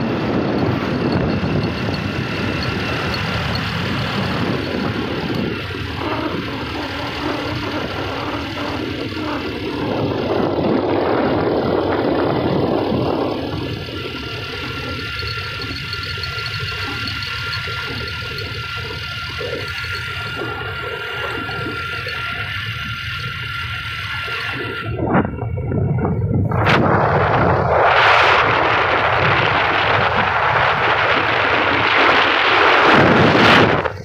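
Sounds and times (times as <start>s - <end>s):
rushing wind: 0.0s - 34.0s
vehicle engine hum: 0.0s - 34.0s.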